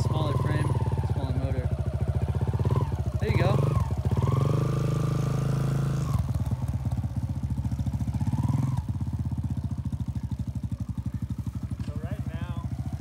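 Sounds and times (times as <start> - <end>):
dirt bike engine puttering: 0.0 - 13.0.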